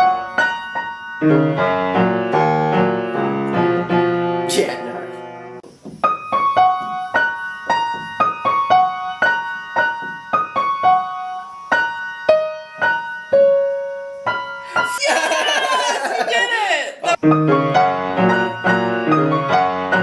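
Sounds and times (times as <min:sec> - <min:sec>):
piano playing simple melody: 0:00.0 - 0:14.9, 0:17.2 - 0:20.0.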